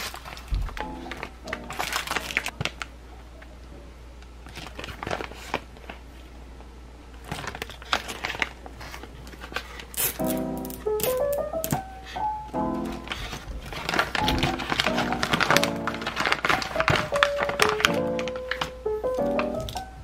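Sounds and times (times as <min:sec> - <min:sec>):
plastic packaging crinkling: 0:00.0 - 0:03.5, 0:04.2 - 0:06.3, 0:07.1 - 0:20.0
quiet background music: 0:00.0 - 0:06.0, 0:07.0 - 0:20.0.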